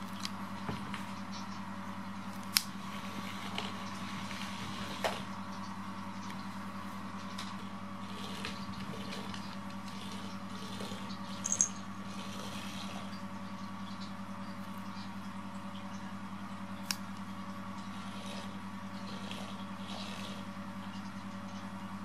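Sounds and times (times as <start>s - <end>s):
small motor humming: 2.3s - 15.1s, 16.8s - 21.7s.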